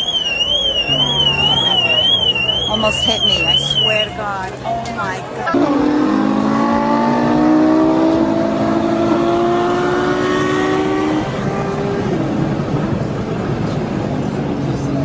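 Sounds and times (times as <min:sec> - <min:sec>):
car engine accelerating: 0:00.0 - 0:04.6, 0:05.2 - 0:15.0.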